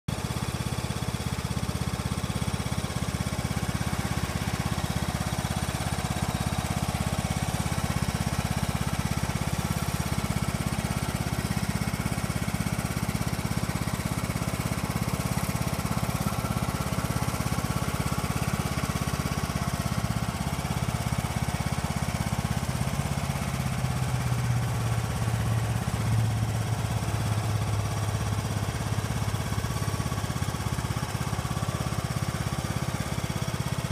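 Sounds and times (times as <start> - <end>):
lawn mower engine running: 0.1 - 33.9.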